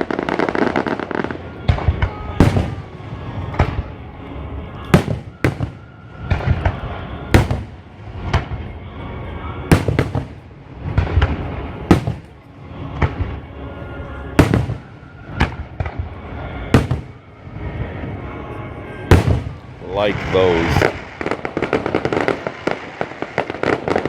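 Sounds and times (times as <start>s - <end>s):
fireworks bangs: 0.0s - 24.0s
fireworks rumble and crackle: 0.0s - 24.0s.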